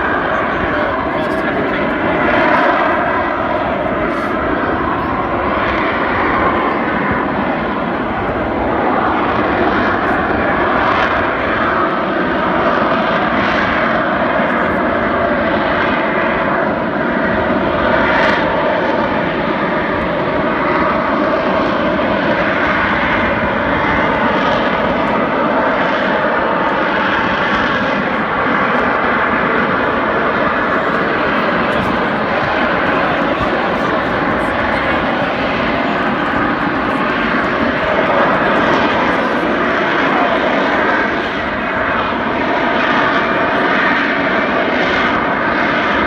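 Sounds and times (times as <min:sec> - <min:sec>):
jet engine running loudly: 0:00.0 - 0:46.0.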